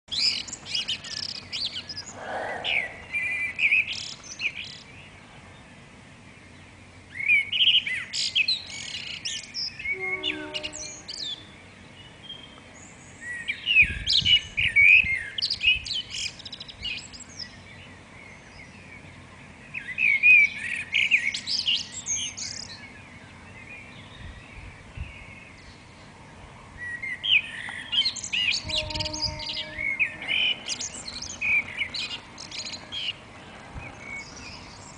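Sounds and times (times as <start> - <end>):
songbird twittering: 0.1 - 5.7, 6.3 - 26.1, 26.8 - 34.9.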